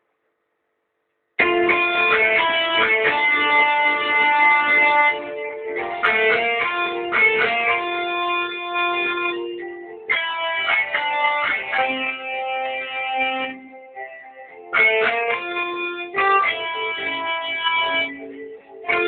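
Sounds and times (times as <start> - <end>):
guitar melody: 1.4 - 19.0.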